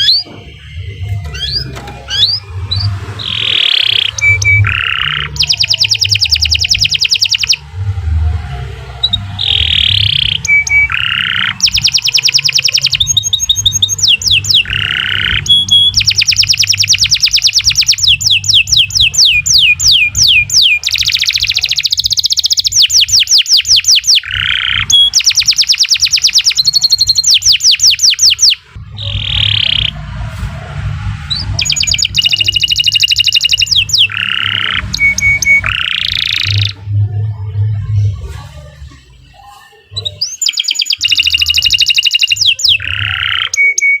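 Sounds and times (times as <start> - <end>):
canary singing trills: 0.0 - 7.7, 8.3 - 30.2, 31.2 - 44.0.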